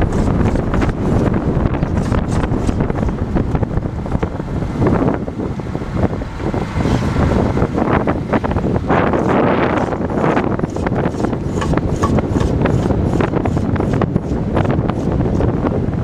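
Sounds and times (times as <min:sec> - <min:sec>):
wheel bearing rumble and grind: 0:00.0 - 0:16.0
wind buffeting microphone: 0:00.0 - 0:16.0.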